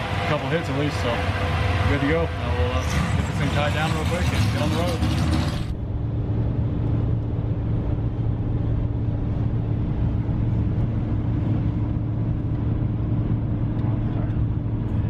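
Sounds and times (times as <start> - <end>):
truck engine hum: 0.0 - 15.0.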